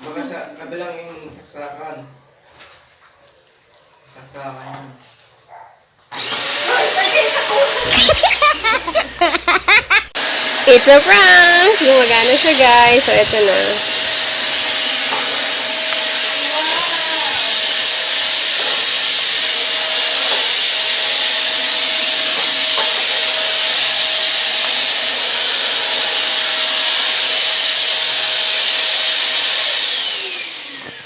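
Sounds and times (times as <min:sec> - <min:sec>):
vacuum cleaner motor whine: 0:06.1 - 0:31.0.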